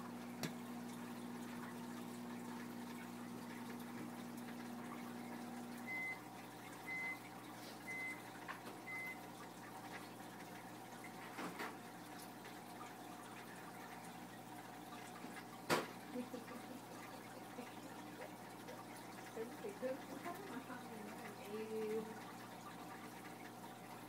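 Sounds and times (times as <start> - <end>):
water running through filter: 0.0 - 24.0.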